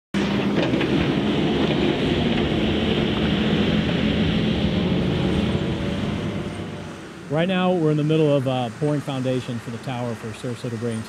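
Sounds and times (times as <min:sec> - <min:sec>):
diesel engine running: 0:00.2 - 0:11.0.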